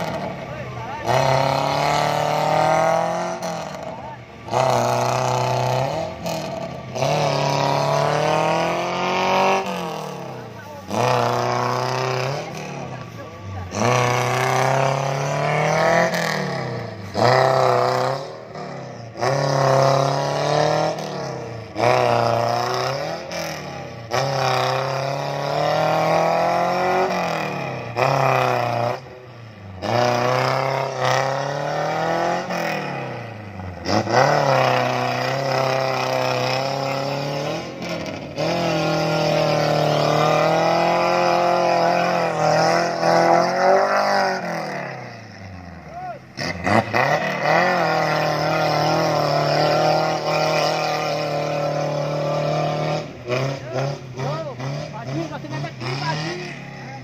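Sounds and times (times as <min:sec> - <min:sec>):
jeep engine revving hard: 0:00.0 - 0:57.0.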